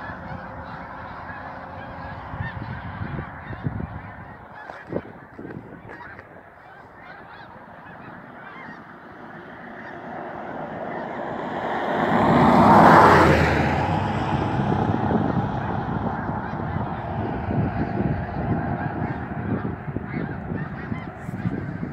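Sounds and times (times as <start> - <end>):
geese honking: 0.0 - 21.9.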